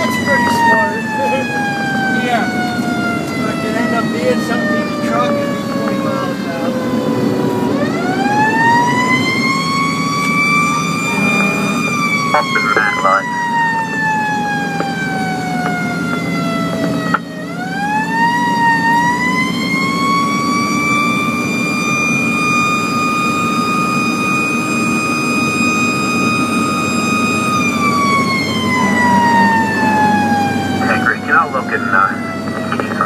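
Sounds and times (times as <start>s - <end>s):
fire engine siren wailing: 0.0s - 33.0s
truck engine and road rumble: 0.0s - 33.0s.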